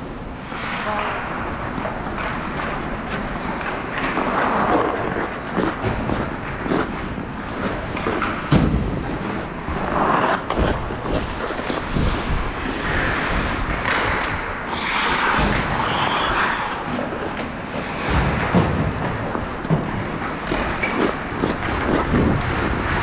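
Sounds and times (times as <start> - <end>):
skates scraping on ice: 0.4 - 23.0
sticks and puck clacking: 0.4 - 23.0.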